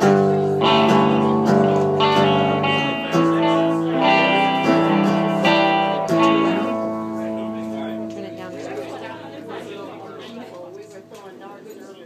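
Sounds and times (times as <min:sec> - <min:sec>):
guitars strumming chords: 0:00.0 - 0:11.3.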